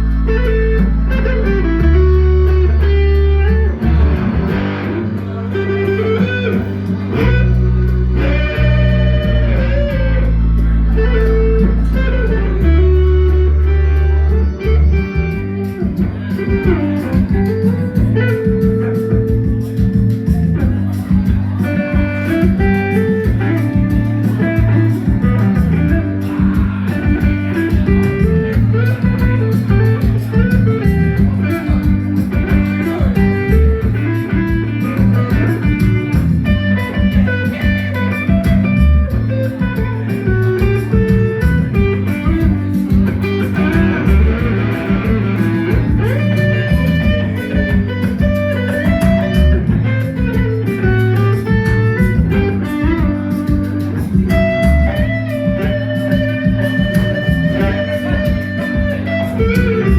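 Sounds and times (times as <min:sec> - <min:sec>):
bass guitar line: 0:00.0 - 0:59.9
electric guitar: 0:00.0 - 0:59.9.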